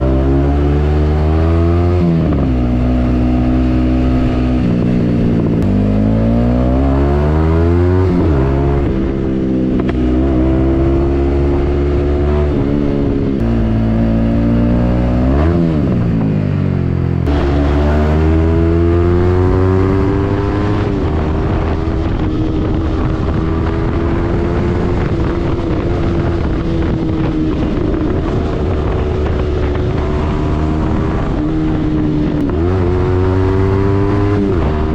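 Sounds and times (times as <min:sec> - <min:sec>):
motorcycle engine shifting gears: 0:00.0 - 0:34.9.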